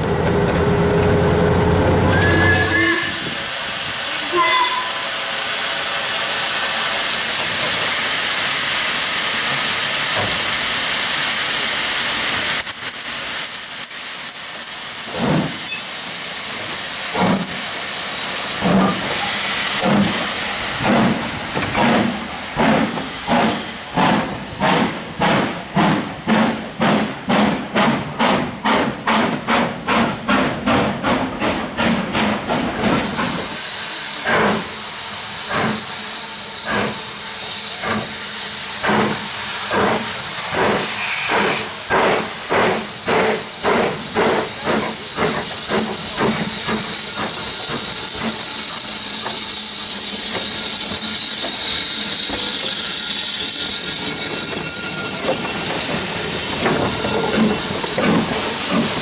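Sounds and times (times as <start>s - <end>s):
steam locomotive exhaust beats: 0.0s - 59.0s
steam hissing: 0.1s - 59.0s.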